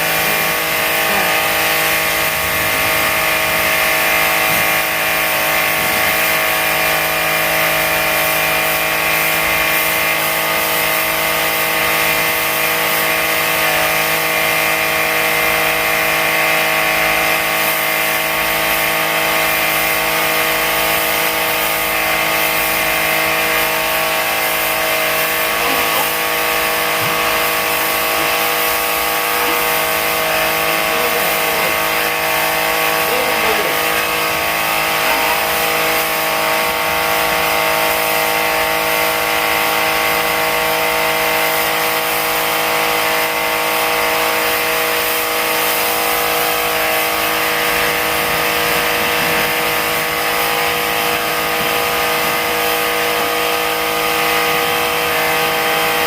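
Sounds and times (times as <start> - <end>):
water spray hiss: 0.0 - 16.1, 17.3 - 56.0
pressure washer motor humming: 0.0 - 56.0.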